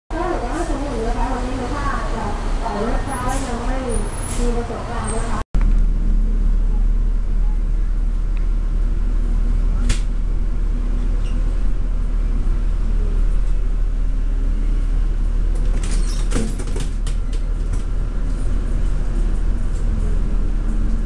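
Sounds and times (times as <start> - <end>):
bus engine and road rumble: 0.1 - 21.0.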